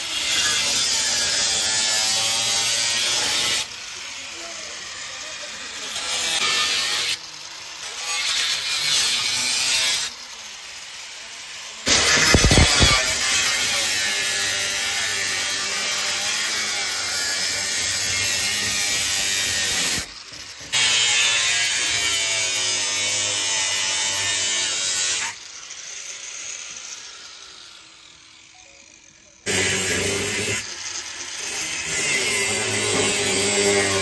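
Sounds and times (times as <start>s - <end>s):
power tool grinding metal: 0.0s - 34.0s.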